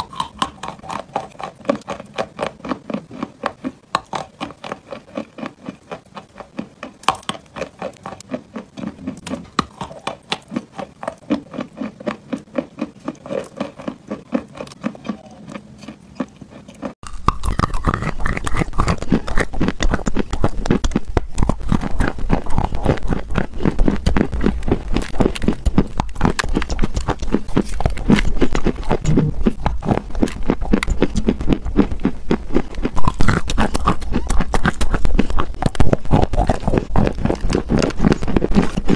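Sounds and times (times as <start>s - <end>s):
crunching and chewing clay: 0.0s - 38.9s.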